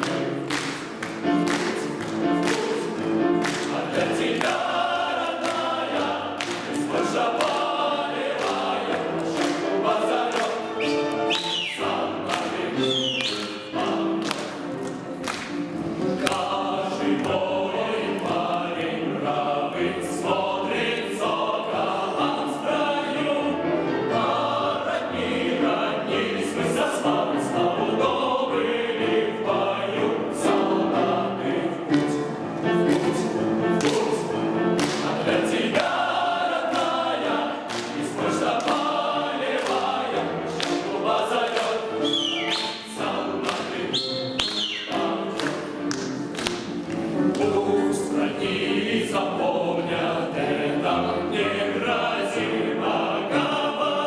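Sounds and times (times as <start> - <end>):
choir singing: 0.0 - 54.0
piano accompaniment: 0.0 - 54.0.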